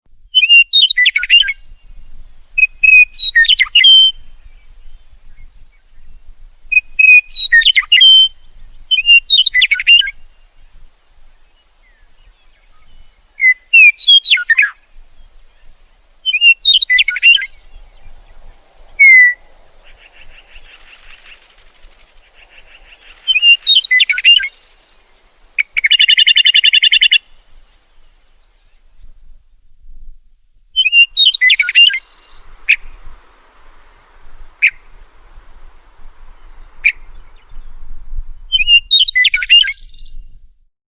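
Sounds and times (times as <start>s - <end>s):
lark singing: 0.4s - 28.7s, 30.8s - 40.2s.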